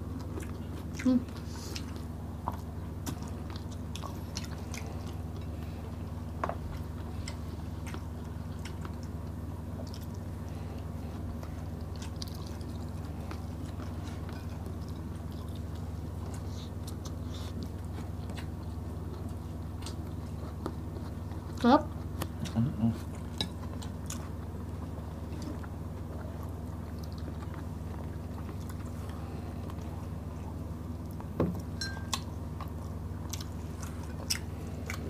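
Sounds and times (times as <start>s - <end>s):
steady low hum: 0.0s - 35.0s
chewing and lip smacking: 0.1s - 35.0s.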